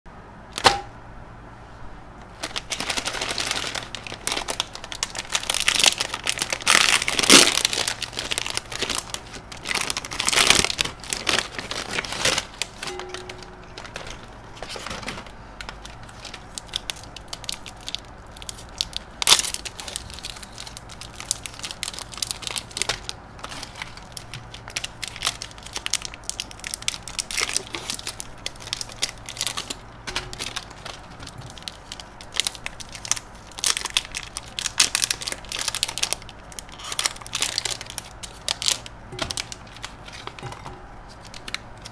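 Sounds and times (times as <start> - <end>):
plastic wrappers crinkling and tearing: 2.3 - 41.9.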